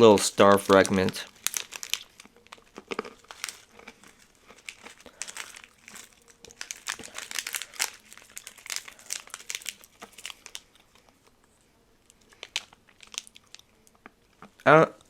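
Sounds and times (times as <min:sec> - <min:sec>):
plastic snack packet crinkling: 0:00.0 - 0:11.4, 0:12.0 - 0:14.7.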